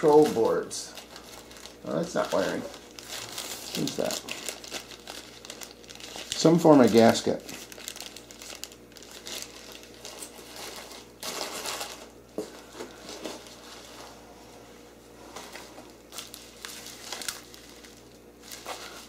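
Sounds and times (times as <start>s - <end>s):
bubble wrap crinkling: 0.0s - 14.2s, 15.4s - 19.0s.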